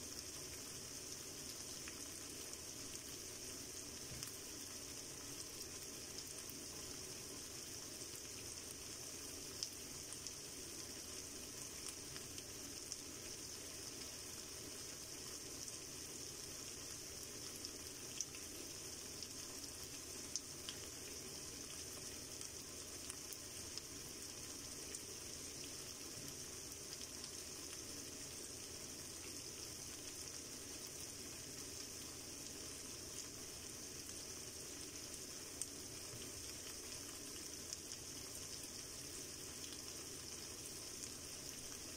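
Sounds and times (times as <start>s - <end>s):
meat sizzling in a frying pan: 0.0s - 41.9s.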